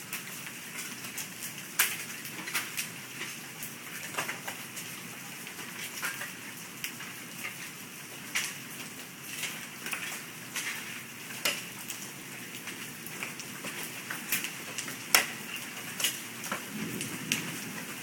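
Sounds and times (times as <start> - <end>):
hailstones striking pavement: 0.0 - 18.0
rain hissing: 0.0 - 18.0.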